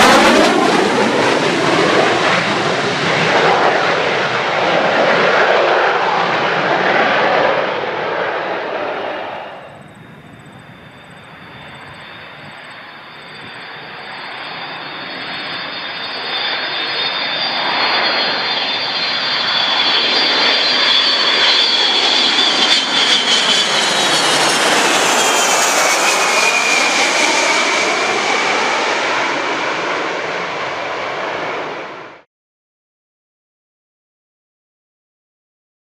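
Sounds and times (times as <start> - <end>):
high engine whine: 0.0 - 32.2
jet aircraft passing: 0.0 - 32.3.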